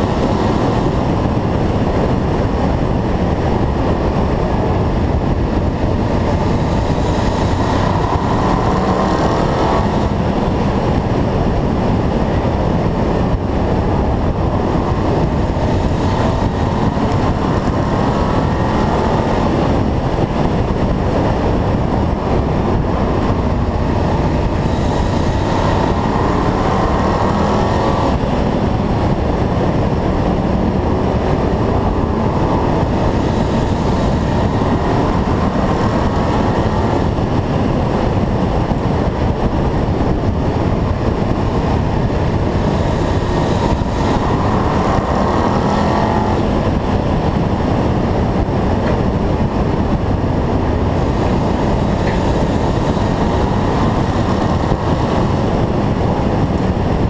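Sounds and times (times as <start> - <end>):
race car engine: 0.0 - 57.0
rushing noise: 0.0 - 57.0.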